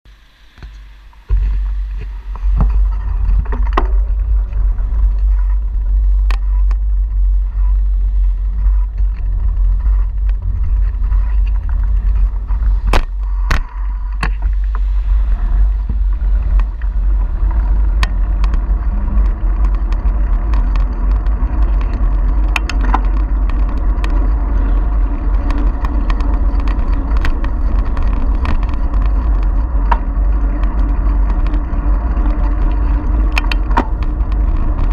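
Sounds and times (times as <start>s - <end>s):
tyre and road noise: 0.1s - 34.9s
bike clicks and rattles: 0.6s - 34.9s
wind buffeting microphone: 1.0s - 34.9s.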